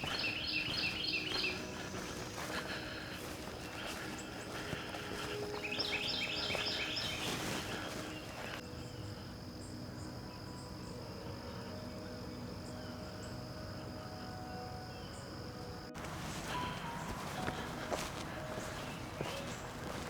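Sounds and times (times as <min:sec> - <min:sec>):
bird chirping: 0:00.0 - 0:20.0
high-pitched insect drone: 0:00.0 - 0:20.0.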